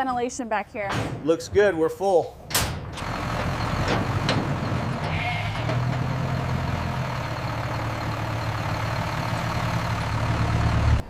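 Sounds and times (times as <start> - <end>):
truck engine humming: 1.2 - 11.0.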